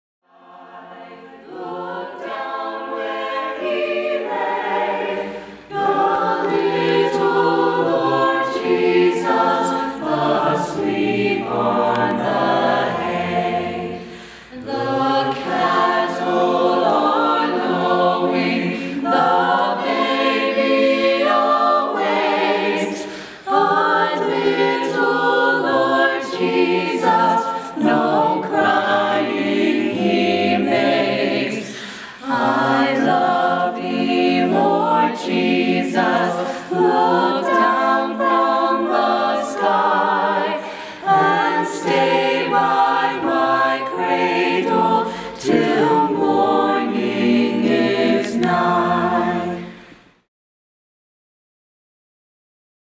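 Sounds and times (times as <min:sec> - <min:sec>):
a cappella group singing in harmony: 0:00.2 - 0:50.3.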